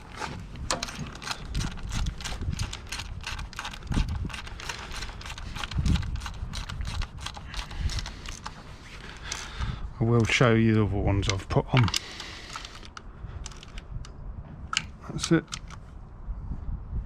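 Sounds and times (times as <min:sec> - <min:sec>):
wind rumble on microphone: 0:00.0 - 0:17.0
socket ratchet clicking: 0:00.6 - 0:10.3, 0:11.3 - 0:14.1, 0:14.7 - 0:15.8.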